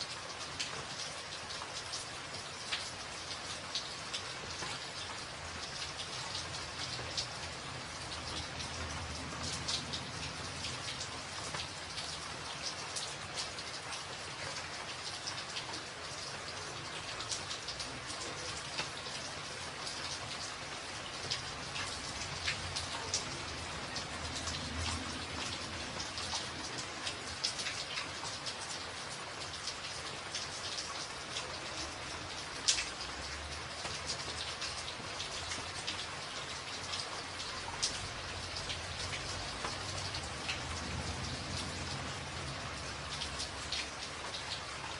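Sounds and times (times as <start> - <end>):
rain on a tin roof: 0.0 - 44.9.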